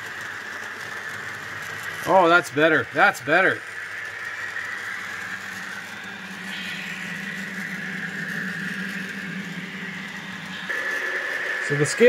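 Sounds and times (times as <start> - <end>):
model locomotive humming: 0.0 - 12.0.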